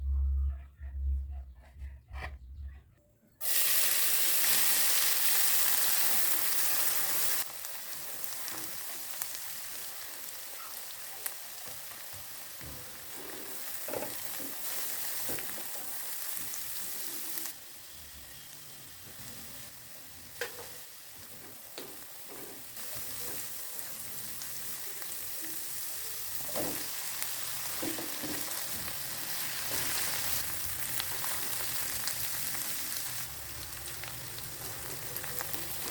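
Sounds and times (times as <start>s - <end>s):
food sizzling in hot oil: 3.4s - 35.9s.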